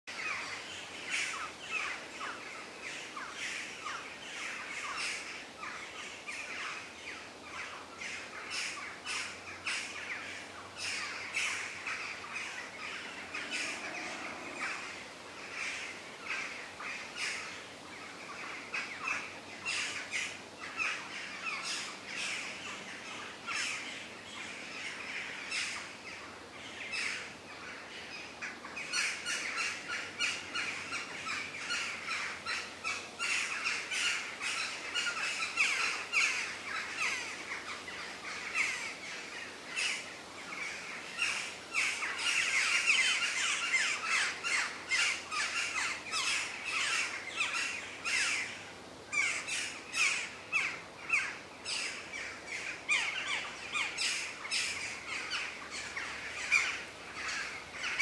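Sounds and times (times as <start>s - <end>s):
forest birds chirping: 0.1s - 58.0s.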